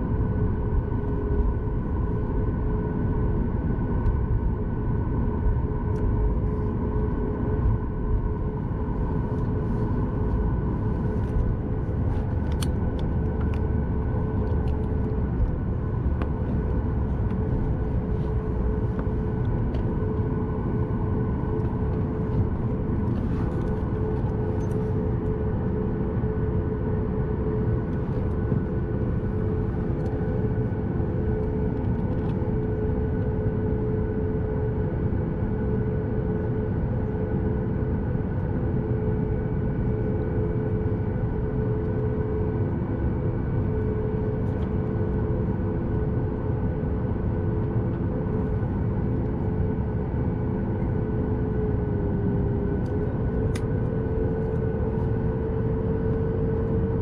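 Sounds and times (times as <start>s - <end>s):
airliner cabin rumble: 0.0s - 57.0s
engine hum: 0.0s - 57.0s.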